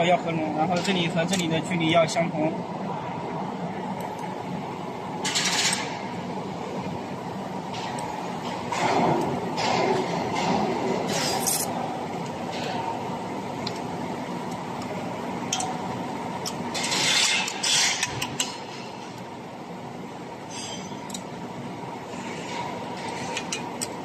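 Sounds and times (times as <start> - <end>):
hum of workshop machinery: 0.0 - 24.0.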